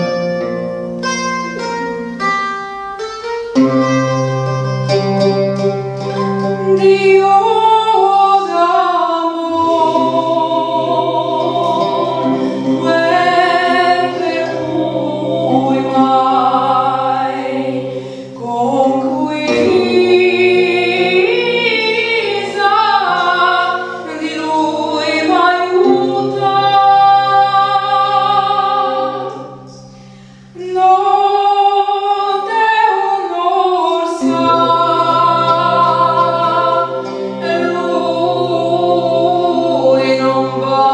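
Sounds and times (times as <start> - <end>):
woman singing folk melody: 6.0 - 40.9.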